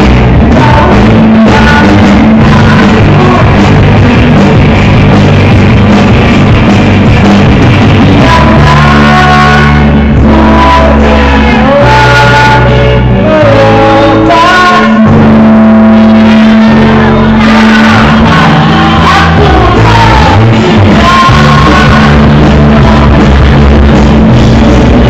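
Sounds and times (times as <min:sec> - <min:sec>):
person singing: 0:00.0 - 0:25.0
pop-rock band playing: 0:00.0 - 0:25.0.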